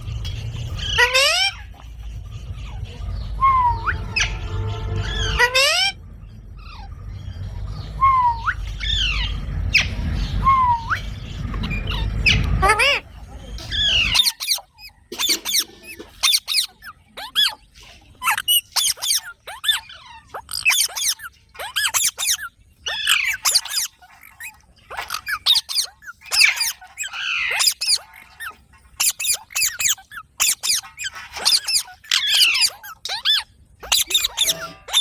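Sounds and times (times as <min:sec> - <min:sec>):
parrot squeaky calls and chirps: 0:00.0 - 0:35.0.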